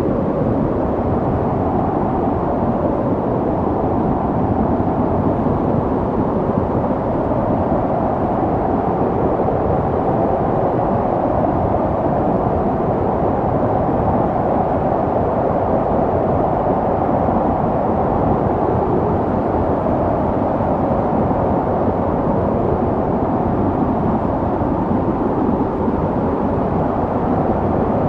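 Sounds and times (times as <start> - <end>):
snowstorm wind blowing: 0.0 - 28.0.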